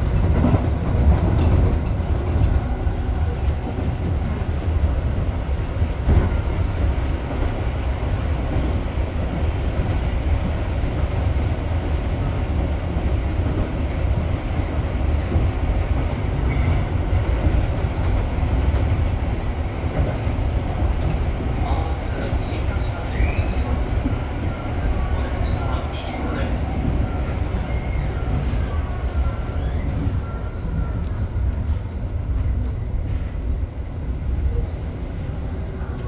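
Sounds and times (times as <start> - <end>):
electric train wheels rumbling: 0.0 - 36.0.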